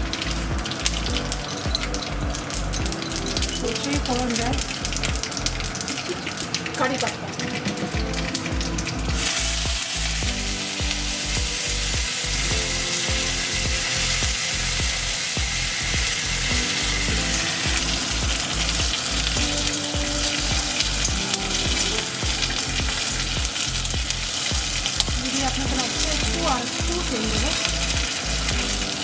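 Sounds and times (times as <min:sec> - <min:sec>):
seeds and leaves sizzling in oil: 0:00.0 - 0:29.0.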